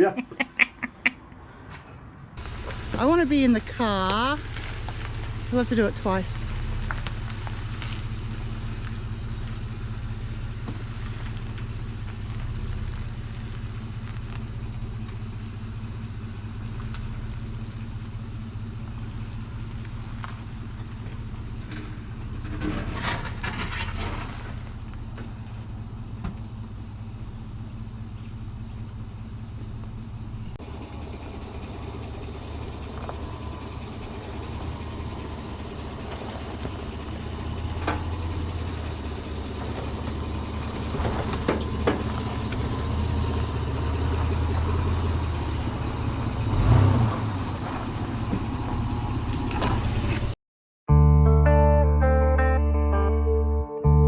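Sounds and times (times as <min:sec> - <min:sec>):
car engine humming: 0:00.0 - 0:50.4.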